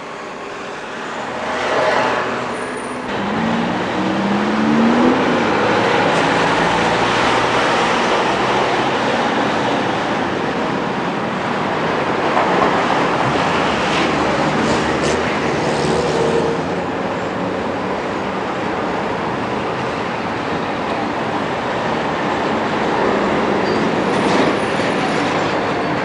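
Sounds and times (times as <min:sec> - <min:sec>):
rumble of street traffic: 0:00.0 - 0:26.0
trams running: 0:00.0 - 0:26.0.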